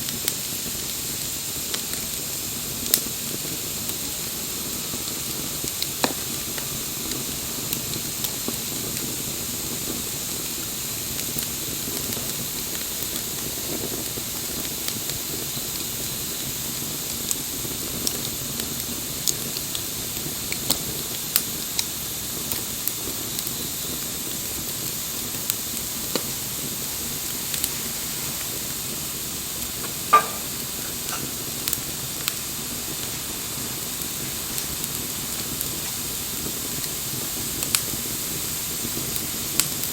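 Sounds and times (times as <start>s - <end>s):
campfire hissing and crackling: 0.0s - 39.9s
fire popping: 0.0s - 39.9s.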